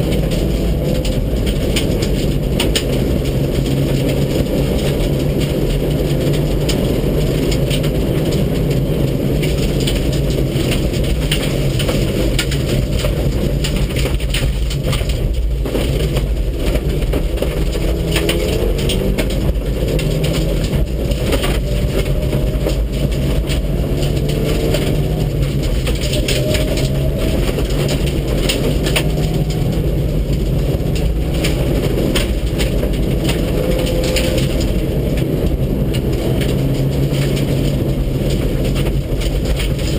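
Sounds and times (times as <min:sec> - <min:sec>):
gravel rattling against underbody: 0:00.0 - 0:39.9
rally car engine pulling hard: 0:00.0 - 0:39.9.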